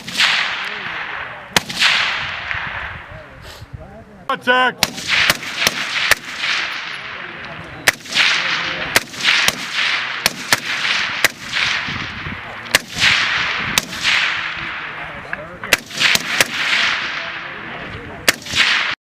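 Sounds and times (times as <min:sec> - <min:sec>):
rifle shots with echo: 0:00.0 - 0:03.1, 0:04.8 - 0:19.0.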